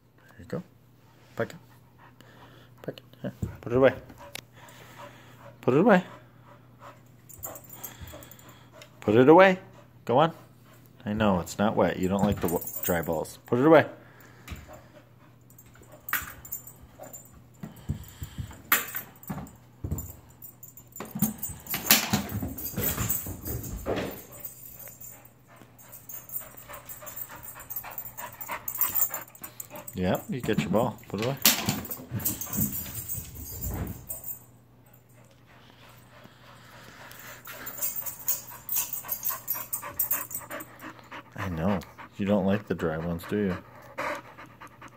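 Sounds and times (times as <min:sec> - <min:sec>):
collar tags jangling: 0:03.7 - 0:09.3, 0:11.1 - 0:13.8, 0:14.5 - 0:44.9.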